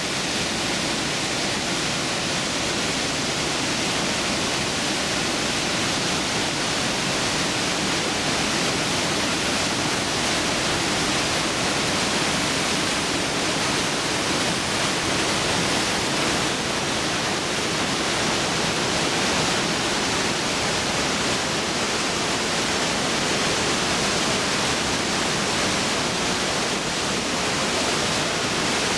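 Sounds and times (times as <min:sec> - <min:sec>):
water rushing through gorge: 0:00.0 - 0:28.9.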